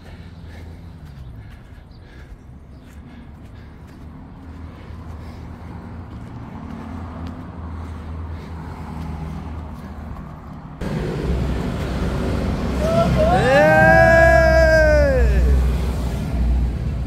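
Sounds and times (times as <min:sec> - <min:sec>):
vehicle engine running close by: 0:00.0 - 0:14.4, 0:15.2 - 0:17.0
traffic noise: 0:00.0 - 0:17.0.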